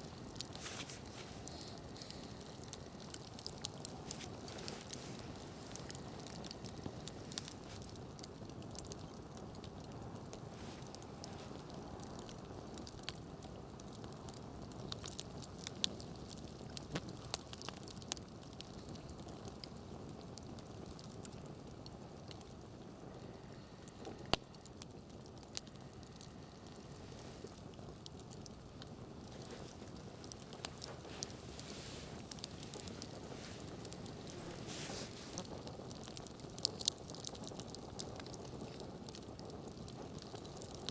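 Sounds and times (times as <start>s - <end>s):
campfire crackling and popping: 0.0s - 40.9s
low steady hiss: 0.0s - 40.9s.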